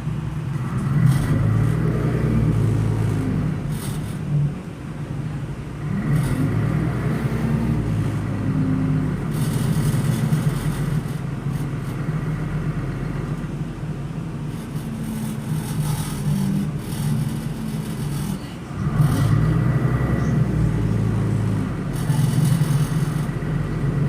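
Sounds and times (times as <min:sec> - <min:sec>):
bus diesel engine droning: 0:00.0 - 0:24.0.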